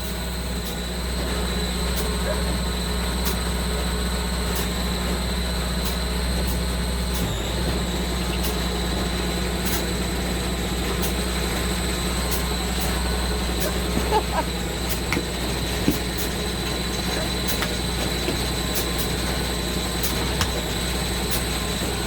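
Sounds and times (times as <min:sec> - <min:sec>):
heavy machinery deep hum: 0:00.0 - 0:22.0.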